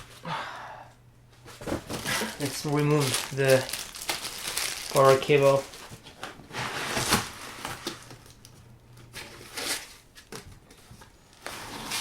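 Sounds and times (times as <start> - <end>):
packaging rustling and scraping: 1.4 - 12.0.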